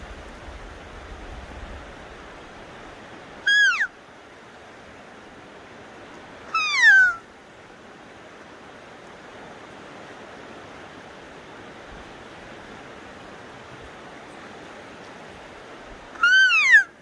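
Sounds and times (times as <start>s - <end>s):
steady hiss: 0.0s - 6.6s, 7.2s - 16.2s.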